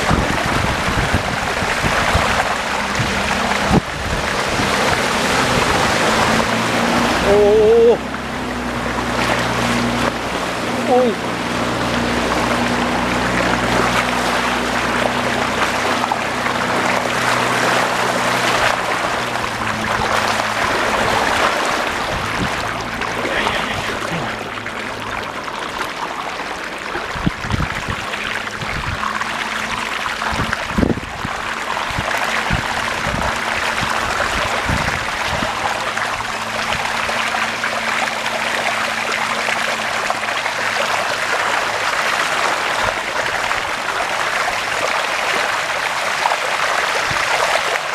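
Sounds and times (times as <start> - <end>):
low hum: 0.0 - 47.4
floodwater flowing and splashing: 0.0 - 47.9.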